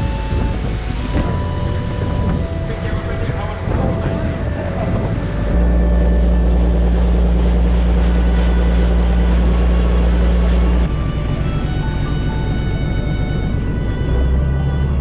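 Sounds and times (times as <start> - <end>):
boat engine drone: 0.0 - 15.0
music: 0.0 - 15.0
rushing water noise: 0.0 - 15.0.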